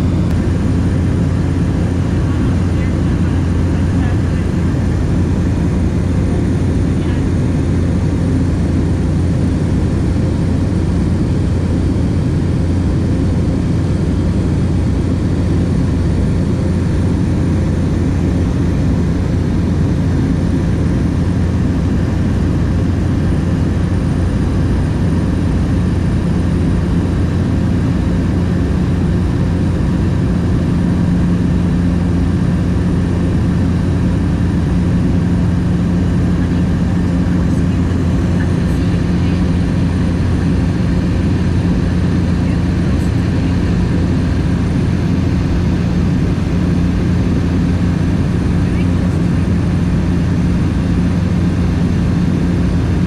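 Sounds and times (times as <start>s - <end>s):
light aircraft engine drone: 0.0s - 53.0s.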